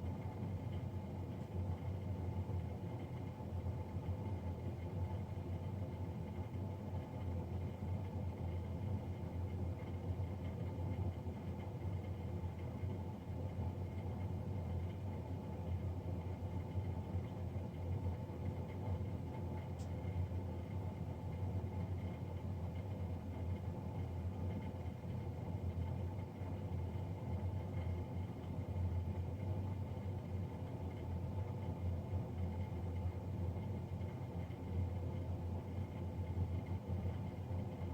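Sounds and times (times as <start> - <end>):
boiler fan droning: 0.0 - 37.9.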